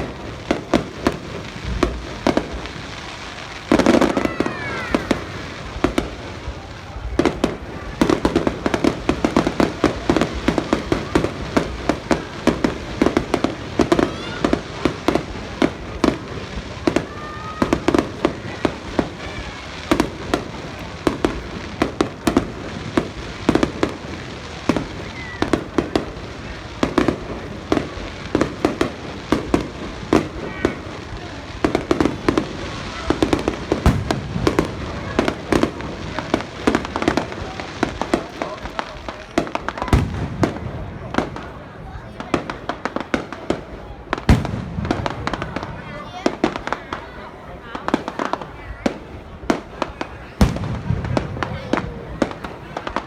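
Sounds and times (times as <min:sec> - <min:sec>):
fireworks bangs and pops: 0:00.0 - 0:53.0.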